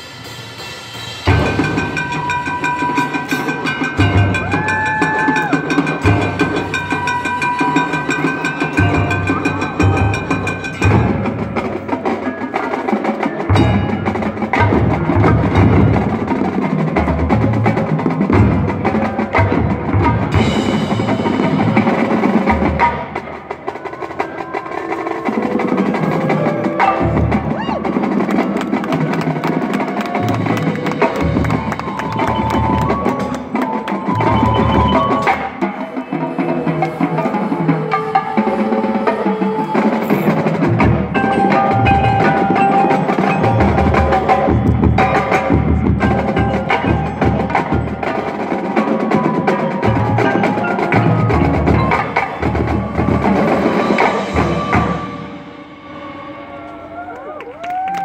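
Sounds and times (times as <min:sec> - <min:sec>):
marching band playing: 0:00.0 - 0:58.0
mallet percussion notes: 0:00.2 - 0:29.3, 0:29.9 - 0:38.8, 0:39.8 - 0:56.4.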